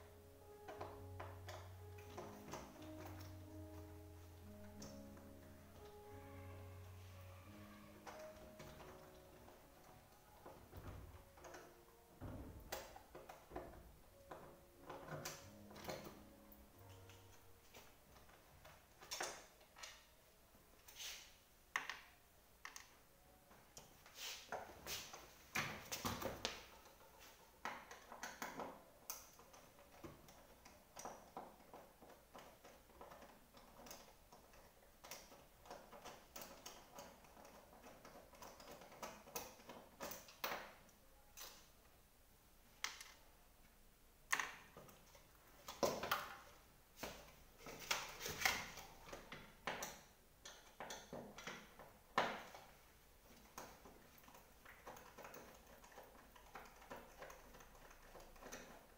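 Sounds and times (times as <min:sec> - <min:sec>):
tools clicking and scraping on chair: 0:00.4 - 0:06.0, 0:07.4 - 0:20.1, 0:23.5 - 0:41.7, 0:44.3 - 0:58.9.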